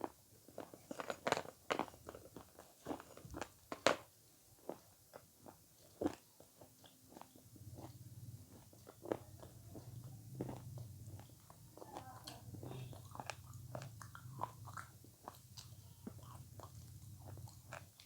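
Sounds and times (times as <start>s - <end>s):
faint low hum: 0.0s - 18.0s
person chewing food: 0.0s - 18.0s.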